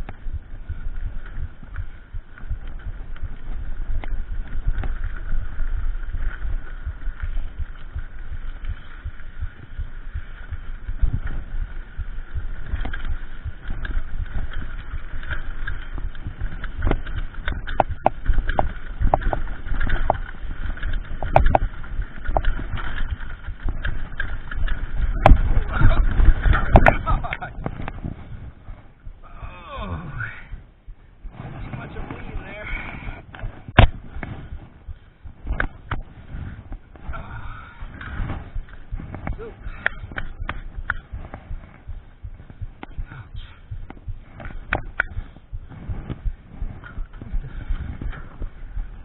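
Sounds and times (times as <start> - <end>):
bike rattling and knocking: 0.0 - 32.5, 33.2 - 49.0
bike tyres rumbling on dirt: 0.0 - 49.0.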